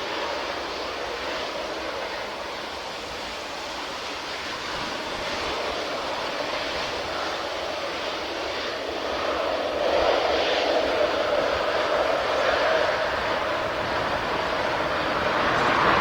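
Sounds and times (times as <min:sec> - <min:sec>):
airliner engine drone: 0:00.0 - 0:16.0.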